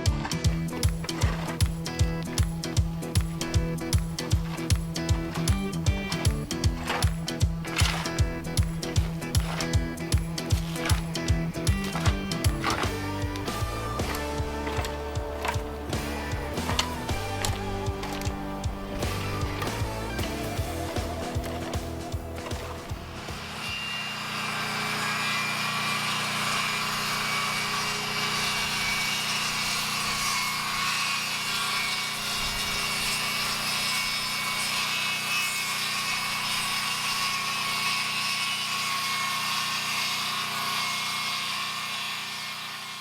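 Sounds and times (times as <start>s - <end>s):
power tool running steadily: 0.0s - 43.0s.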